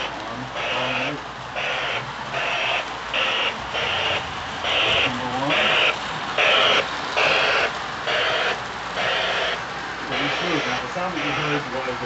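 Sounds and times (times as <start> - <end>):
toy steam locomotive chuffing: 0.0 - 12.0.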